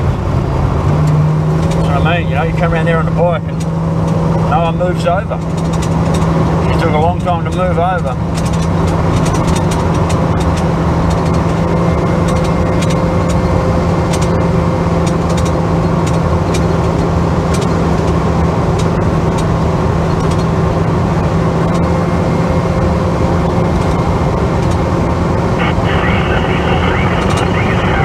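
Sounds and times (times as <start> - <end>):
car engine drone: 0.0 - 28.0
road noise: 0.0 - 28.0.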